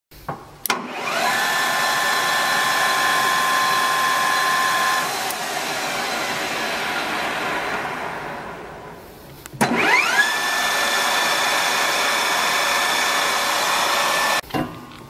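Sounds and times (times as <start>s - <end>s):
lathe chuck rushing: 0.7s - 8.6s, 9.6s - 14.4s
lathe motor whine: 0.7s - 14.4s.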